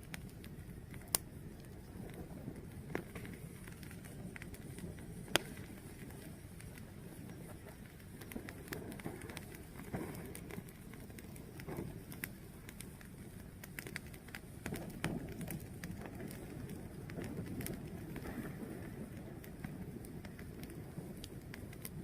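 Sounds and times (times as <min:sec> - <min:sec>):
fire burning with crackles: 0:00.0 - 0:22.0
fire crackling and popping: 0:00.0 - 0:22.0.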